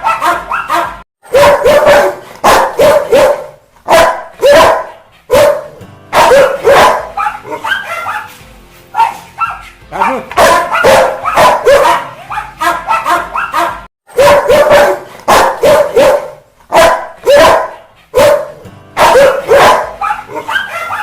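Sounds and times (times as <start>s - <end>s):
dog barking aggressively: 0.0s - 21.0s.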